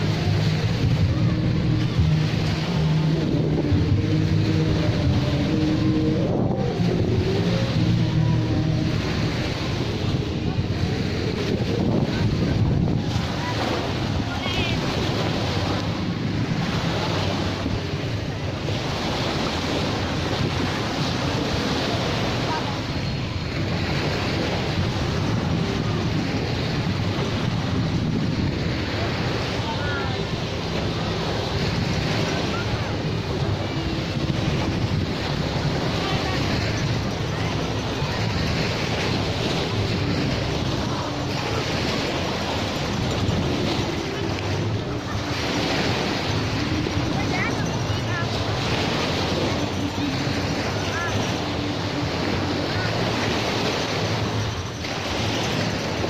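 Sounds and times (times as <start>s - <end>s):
sea surf: 0.0s - 56.0s
small waves breaking on shore: 0.0s - 56.0s
wind buffeting microphone: 0.0s - 56.0s.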